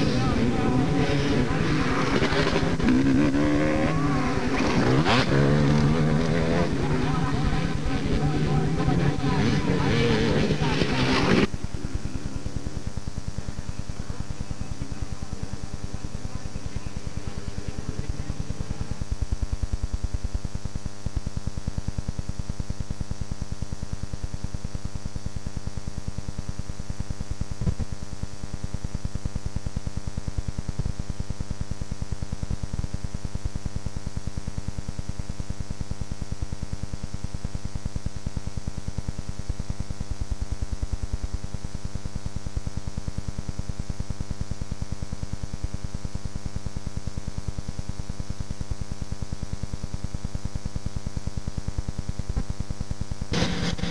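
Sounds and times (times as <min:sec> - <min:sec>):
electrical hum and buzz: 0:00.0 - 0:53.9.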